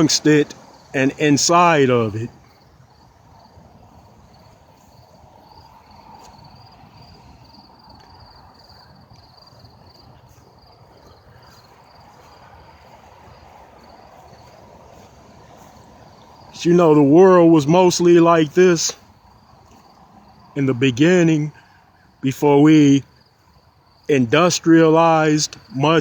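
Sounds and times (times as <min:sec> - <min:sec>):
crickets chirping: 0:00.0 - 0:26.0
faint low background noise: 0:00.0 - 0:26.0.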